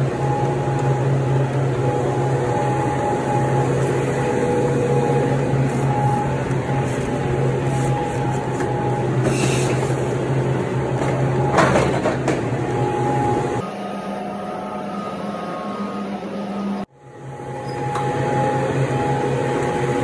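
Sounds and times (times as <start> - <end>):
cooler fans running: 0.0 - 20.0
electric pallet jack hum: 0.0 - 20.0.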